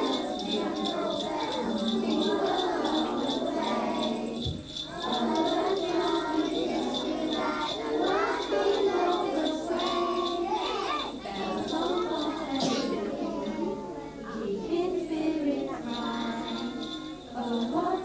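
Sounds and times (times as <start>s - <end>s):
children singing along to music: 0.0s - 18.0s
jingle bells shaken: 0.0s - 18.0s.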